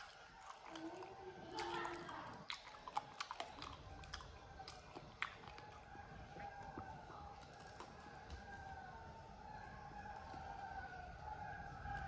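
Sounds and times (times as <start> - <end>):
chewing chicken feet: 0.0 - 12.0.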